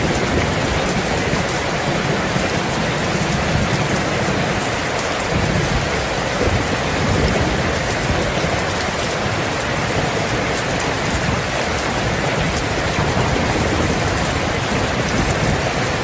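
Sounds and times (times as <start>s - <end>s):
steady rain hissing: 0.0s - 16.0s.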